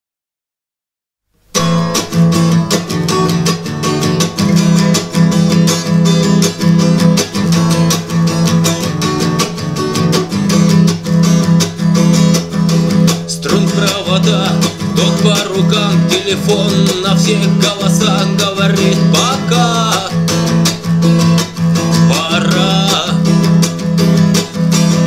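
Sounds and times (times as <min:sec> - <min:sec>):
acoustic guitar strumming: 0:01.4 - 0:25.0.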